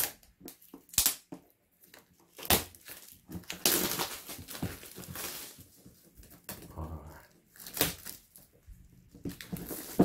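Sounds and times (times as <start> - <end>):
plastic crinkling: 0.0 - 10.0
plastic wrap crackling: 0.0 - 10.0.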